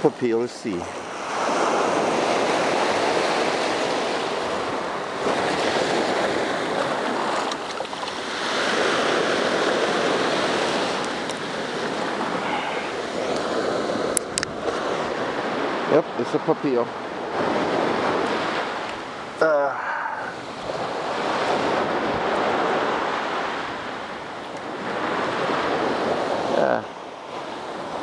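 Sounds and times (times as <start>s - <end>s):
surf breaking on beach: 0.7s - 28.0s.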